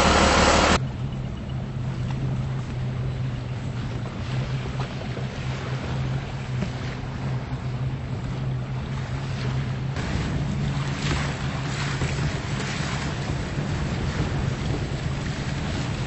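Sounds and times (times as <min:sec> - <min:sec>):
boat engine humming: 0:00.0 - 0:16.0
wind and water hiss: 0:00.0 - 0:16.0.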